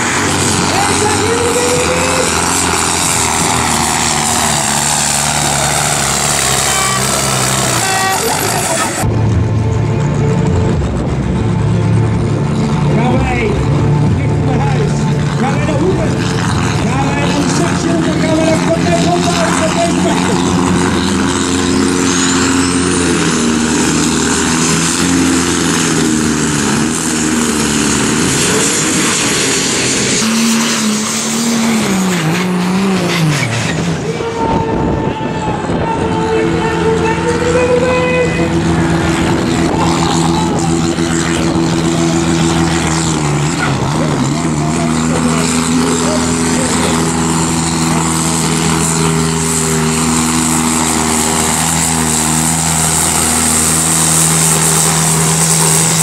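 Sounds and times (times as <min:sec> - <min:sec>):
tractor engine at high revs: 0:00.0 - 0:56.0.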